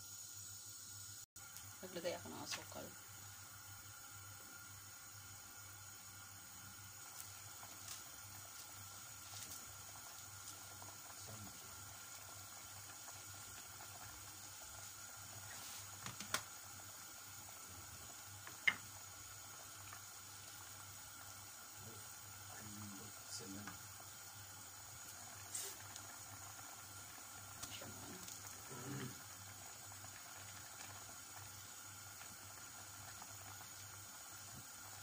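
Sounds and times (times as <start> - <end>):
broth simmering and bubbling: 0.2 - 35.0.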